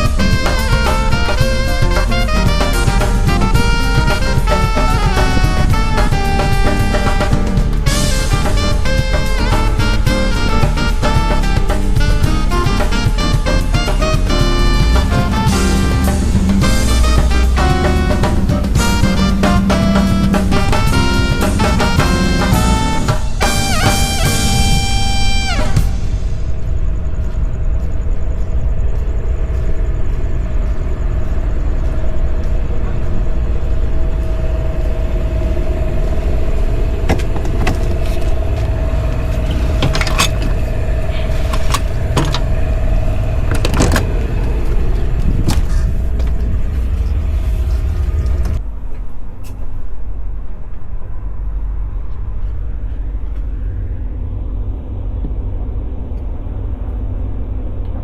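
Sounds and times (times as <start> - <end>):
motor rumbling and whining: 0.0 - 58.0.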